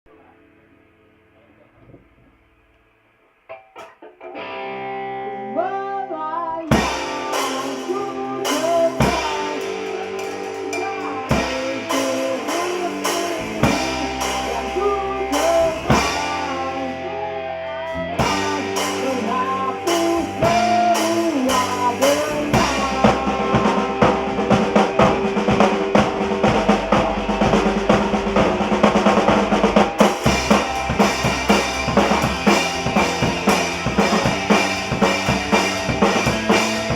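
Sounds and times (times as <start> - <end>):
bass guitar: 0.0 - 36.9
drums: 1.4 - 36.9
electric guitar with bent notes: 3.3 - 36.9.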